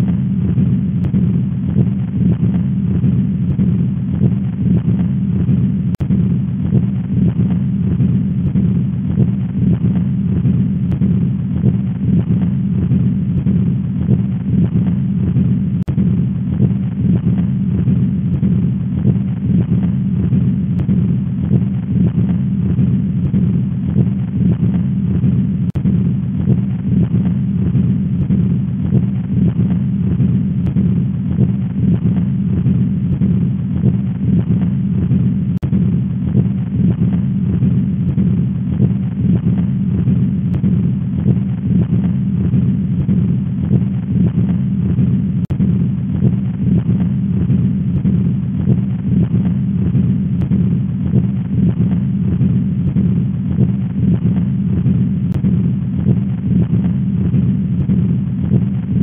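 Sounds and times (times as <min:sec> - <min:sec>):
heartbeat: 0:00.0 - 0:59.0
machine-like heart murmur: 0:00.0 - 0:59.0.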